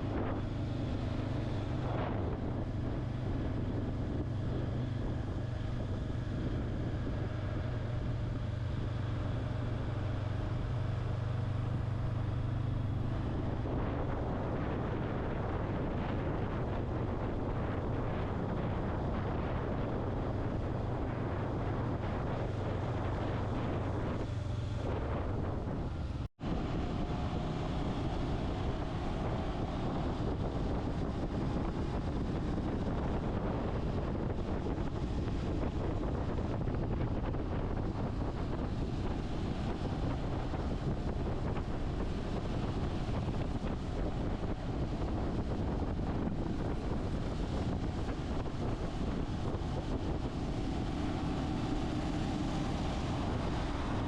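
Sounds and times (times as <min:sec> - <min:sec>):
motorcycle engine hum: 0:00.0 - 0:54.0
wind rushing on microphone: 0:00.0 - 0:54.0.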